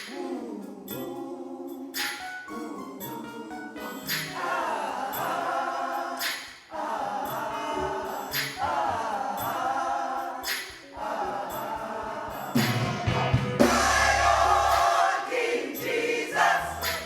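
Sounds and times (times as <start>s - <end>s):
choir breathing: 0.0s - 17.0s
choir singing a gospel song: 0.0s - 17.0s.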